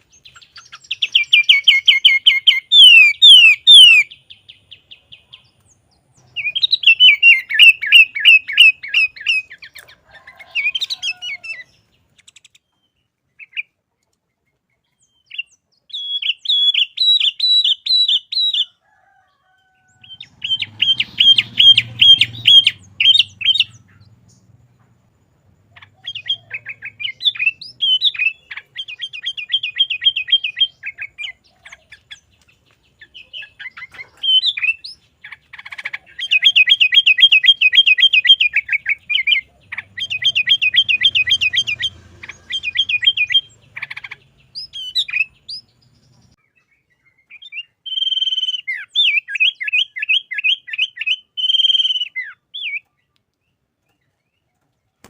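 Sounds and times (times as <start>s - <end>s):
bird singing rapid notes: 0.0s - 18.8s, 19.9s - 55.0s.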